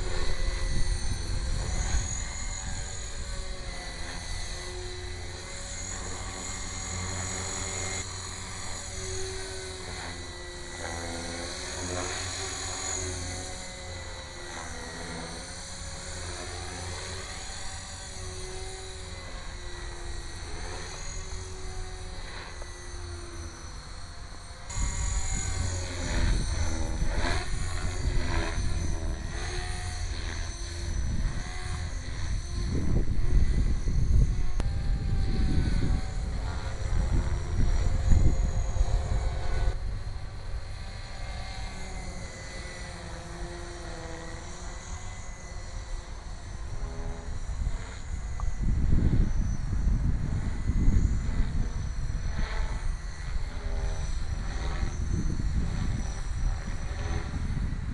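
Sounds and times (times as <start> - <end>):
rc helicopter motor and rotor whine: 0.0 - 57.9.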